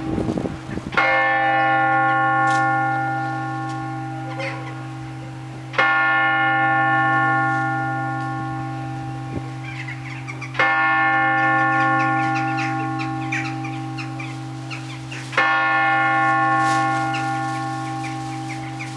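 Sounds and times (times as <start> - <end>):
large tower bell striking: 0.0 - 18.9.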